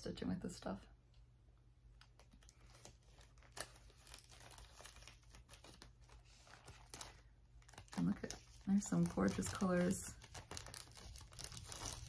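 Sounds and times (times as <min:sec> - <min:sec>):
packaging rustling and crinkling: 0:02.0 - 0:12.0.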